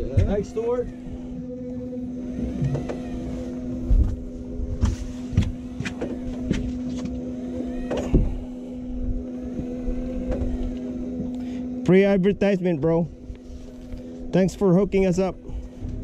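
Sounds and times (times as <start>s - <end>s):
electric fishing reel motor humming: 0.0s - 16.0s.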